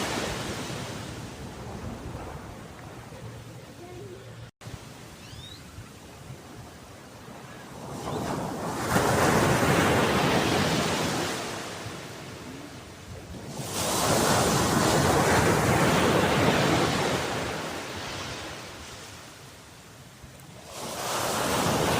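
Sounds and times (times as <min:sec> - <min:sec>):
ocean waves breaking: 0:00.0 - 0:05.2, 0:06.0 - 0:19.7, 0:20.5 - 0:21.9.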